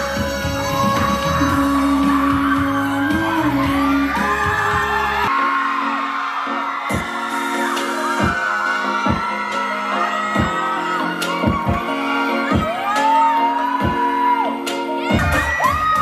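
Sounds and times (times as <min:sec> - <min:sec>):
song with singing over bass beat: 0:00.0 - 0:16.0.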